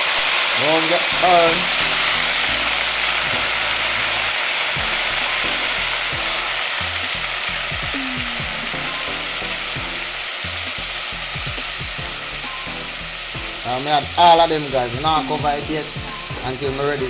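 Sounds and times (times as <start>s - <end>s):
meat deep-frying in hot oil: 0.0s - 17.0s.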